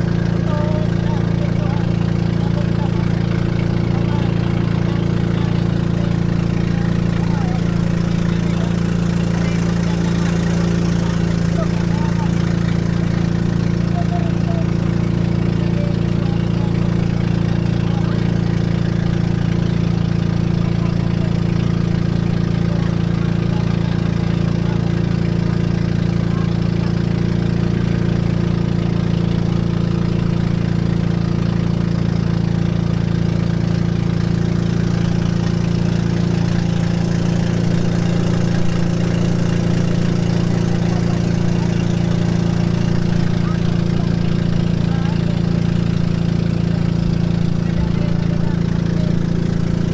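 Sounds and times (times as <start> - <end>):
motorboat engine running: 0.0 - 49.9.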